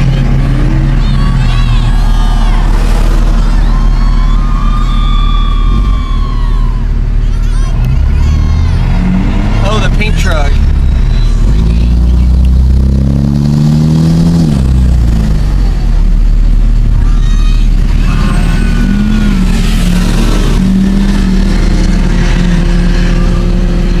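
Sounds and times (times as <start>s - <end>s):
diesel truck engine revving: 0.0s - 24.0s.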